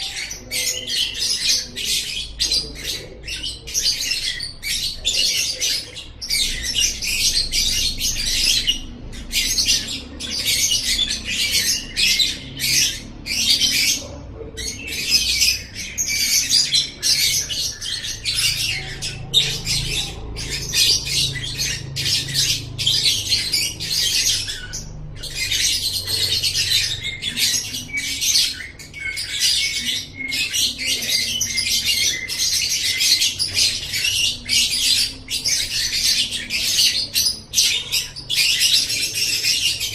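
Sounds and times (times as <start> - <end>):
lovebird high-pitched chatter: 0.0 - 39.9.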